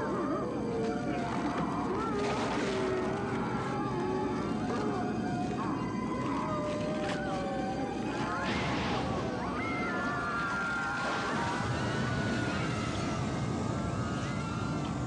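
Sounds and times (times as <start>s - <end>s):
horror film soundtrack: 0.0s - 15.0s
wavering gliding cries: 0.0s - 15.0s.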